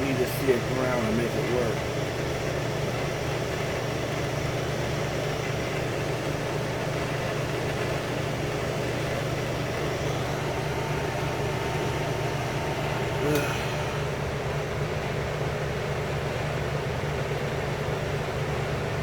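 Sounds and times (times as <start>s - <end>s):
air conditioners humming: 0.0s - 19.0s.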